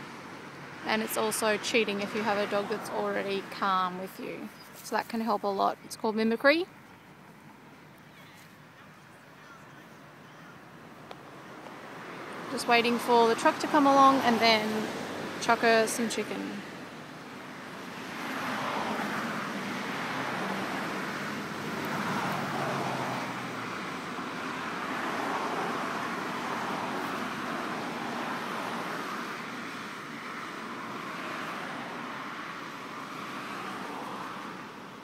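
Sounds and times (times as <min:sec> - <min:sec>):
road traffic passing: 0:00.0 - 0:35.0.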